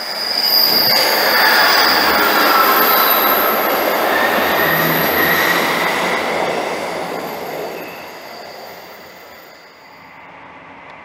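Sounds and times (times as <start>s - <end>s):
train wheels squealing: 0.0s - 10.3s
wheels rumbling on rail: 0.0s - 11.0s.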